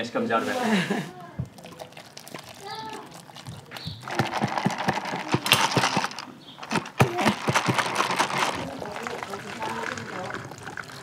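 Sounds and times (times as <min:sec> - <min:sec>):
whisk rattling in plastic jug: 0:01.4 - 0:11.0.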